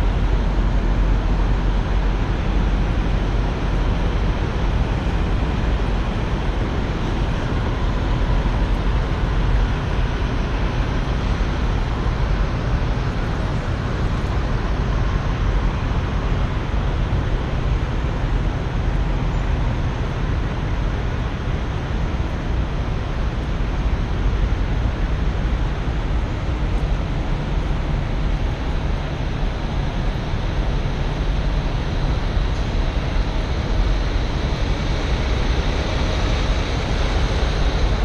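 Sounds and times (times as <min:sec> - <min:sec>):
wind and road noise: 0:00.0 - 0:38.0.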